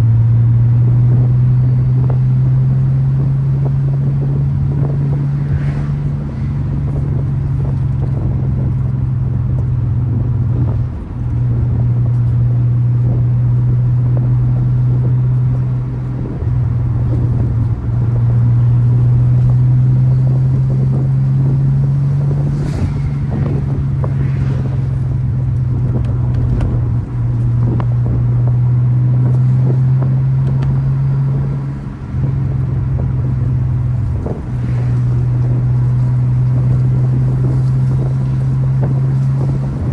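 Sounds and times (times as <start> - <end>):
engine and exhaust droning: 0.0 - 39.9.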